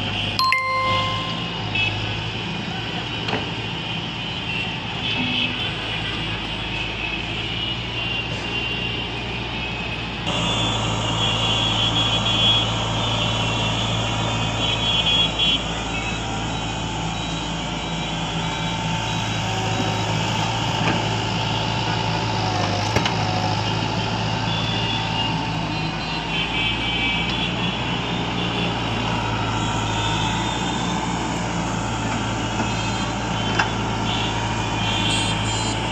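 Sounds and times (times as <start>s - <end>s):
excavator diesel engine under load: 0.0s - 26.4s, 27.2s - 35.9s.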